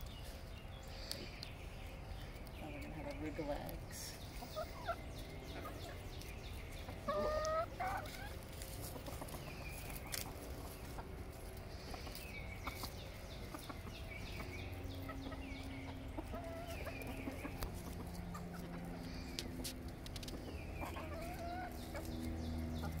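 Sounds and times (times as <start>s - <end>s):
hens clucking: 0.2s - 23.0s.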